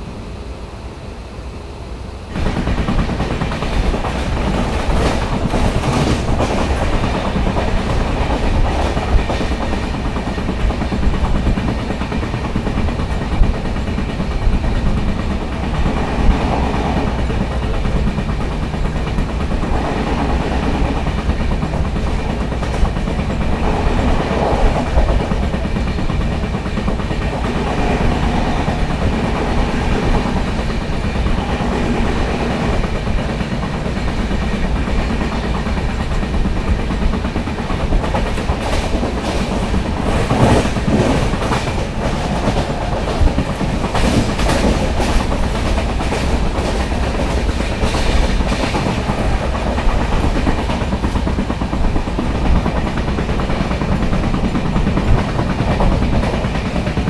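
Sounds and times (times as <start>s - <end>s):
train wheels clattering on rails: 2.3s - 57.0s.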